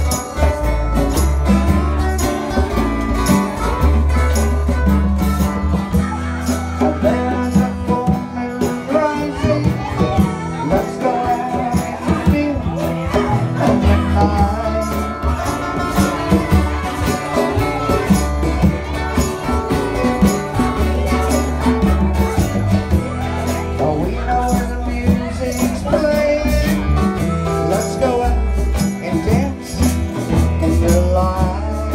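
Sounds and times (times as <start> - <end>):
shaken percussion: 0.0 - 31.9
song with bass and beat: 0.0 - 31.9.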